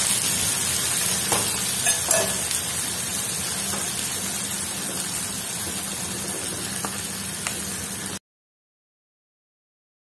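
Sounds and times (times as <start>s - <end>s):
paste sizzling in hot oil: 0.0s - 8.2s.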